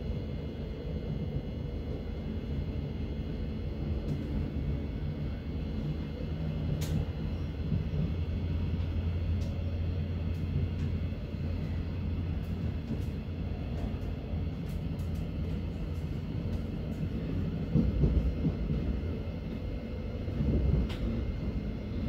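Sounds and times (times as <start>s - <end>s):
train wheels rumbling: 3.7s - 22.0s.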